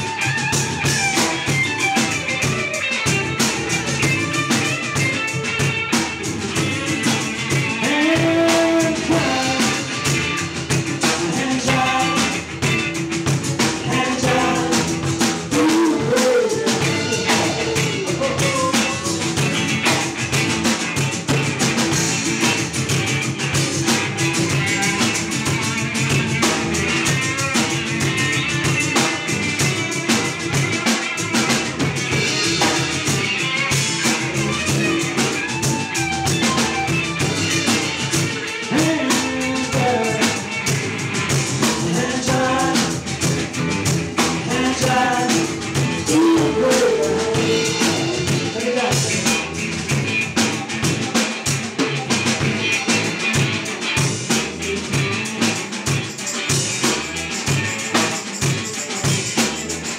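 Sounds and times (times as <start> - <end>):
drum kit steady beat: 0.0 - 59.9.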